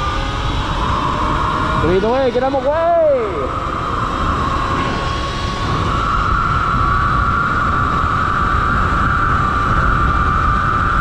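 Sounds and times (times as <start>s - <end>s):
electric motor whining: 0.0s - 11.0s
wind rumbling on microphone: 0.0s - 11.0s.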